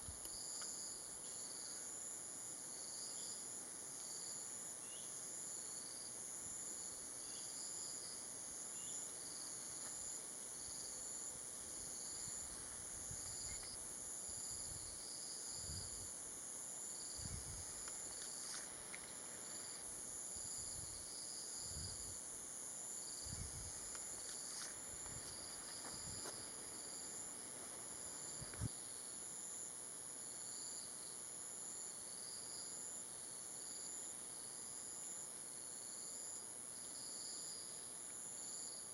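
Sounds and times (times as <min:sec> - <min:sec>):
insects droning: 0:00.0 - 0:38.9
pulsing insect chirp: 0:00.0 - 0:38.9.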